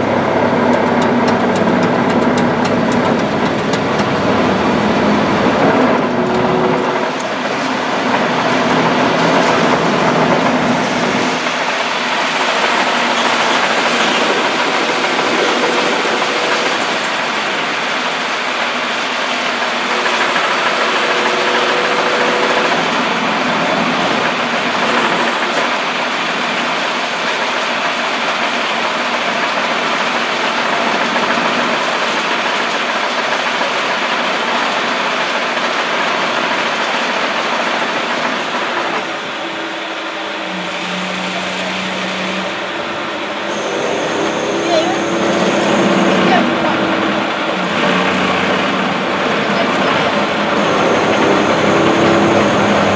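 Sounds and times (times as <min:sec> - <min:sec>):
broad rushing noise: 0:00.0 - 0:52.9
ferry engine running: 0:00.0 - 0:52.9.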